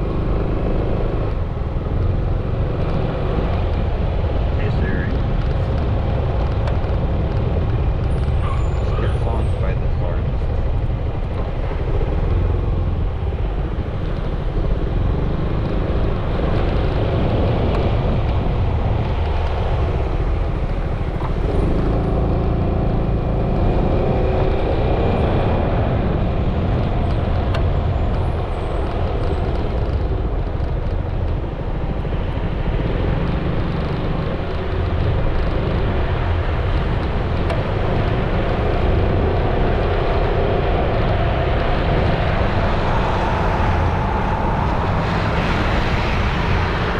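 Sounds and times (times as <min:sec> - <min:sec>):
scooter engine and road noise: 0:00.0 - 0:46.9
wind buffeting microphone: 0:00.0 - 0:46.9.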